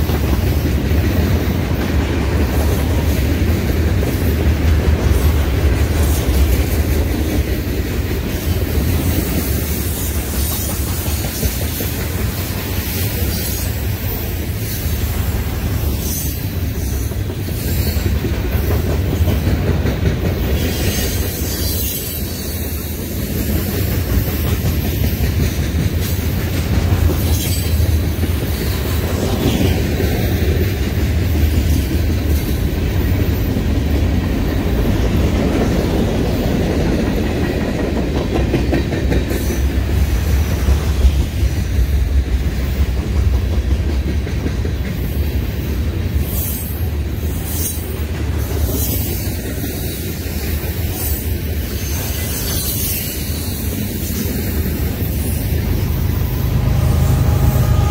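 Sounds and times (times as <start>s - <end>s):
freight train wheels rumbling: 0.0s - 57.9s.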